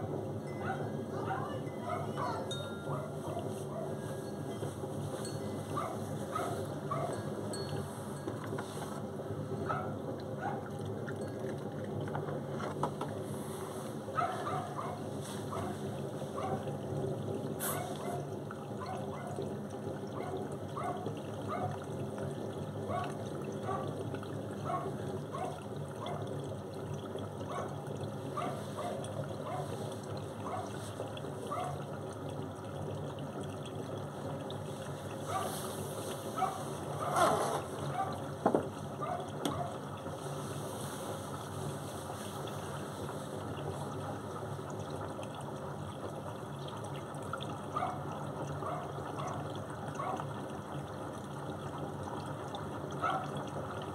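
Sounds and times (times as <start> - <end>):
washing machine motor hum: 0.0 - 53.9
water sloshing in washing machine: 0.0 - 53.9.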